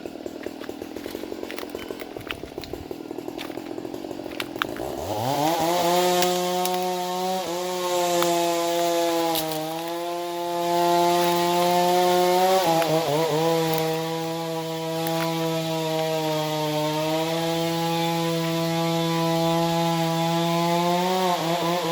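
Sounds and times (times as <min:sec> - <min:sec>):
chainsaw cutting wood: 0:00.0 - 0:21.9.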